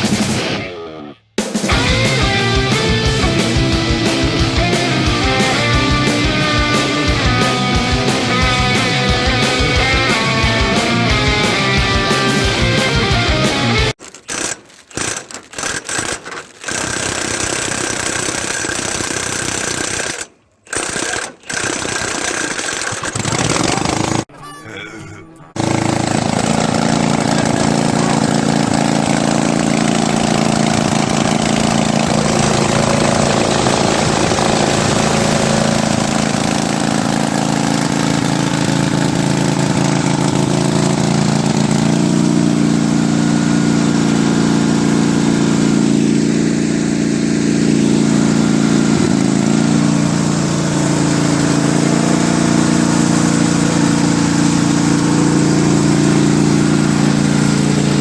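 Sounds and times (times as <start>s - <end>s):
riding lawnmower engine running: 1.6s - 24.3s, 25.5s - 58.0s.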